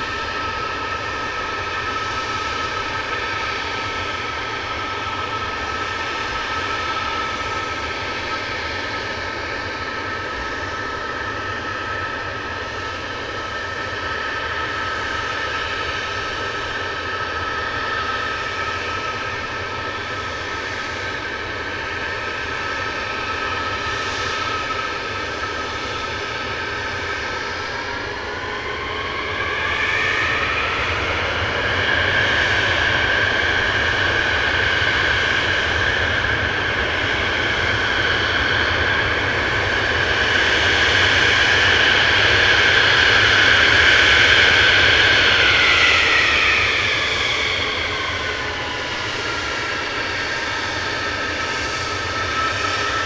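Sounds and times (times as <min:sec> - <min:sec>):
jet engines idling: 0:00.0 - 0:53.0.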